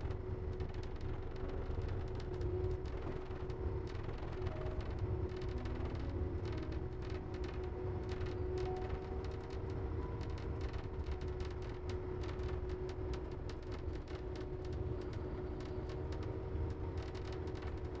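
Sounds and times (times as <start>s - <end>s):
grooming machine rumble and whine: 0.0s - 18.0s.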